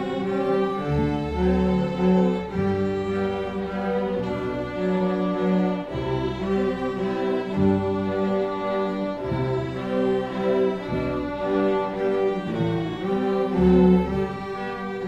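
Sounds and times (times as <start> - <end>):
string orchestra playing: 0.0 - 15.0.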